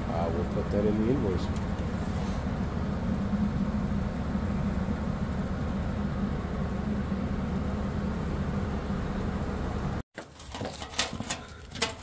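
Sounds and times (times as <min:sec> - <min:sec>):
furnace blower motor humming: 0:00.0 - 0:10.0.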